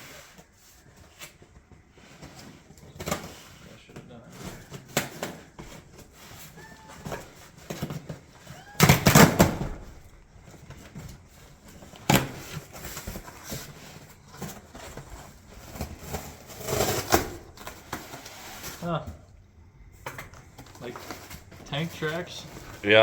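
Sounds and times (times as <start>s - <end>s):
cardboard scraping and rustling: 0.0s - 19.3s, 20.0s - 23.0s.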